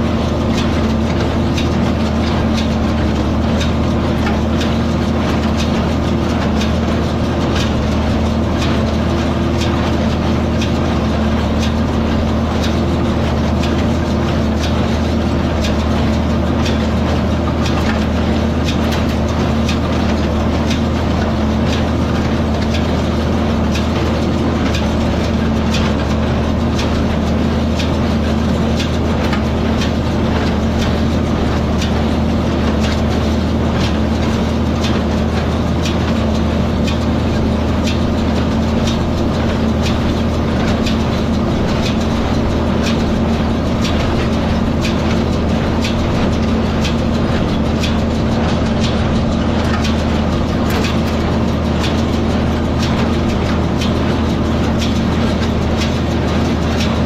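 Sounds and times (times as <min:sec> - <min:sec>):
hay baler plunger clacking: 0:00.0 - 0:57.0
tractor engine running: 0:00.0 - 0:57.0.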